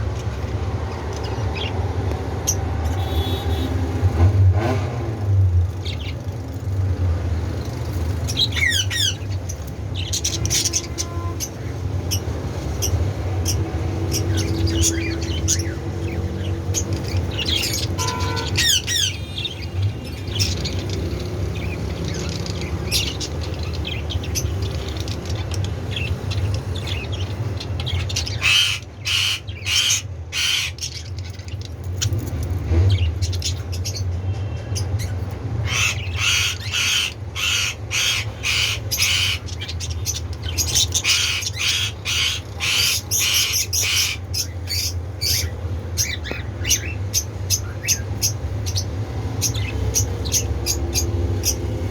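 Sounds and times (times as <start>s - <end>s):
budgerigars chirping and squawking: 0.2s - 4.1s, 5.6s - 51.9s.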